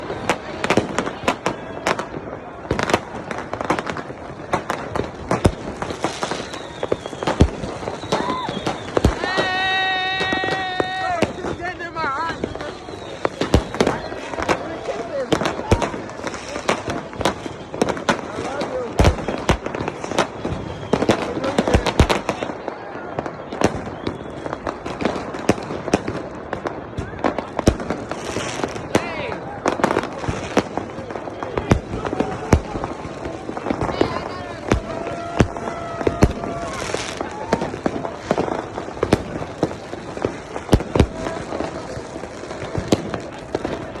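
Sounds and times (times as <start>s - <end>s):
fireworks and firecrackers banging: 0.0s - 44.0s.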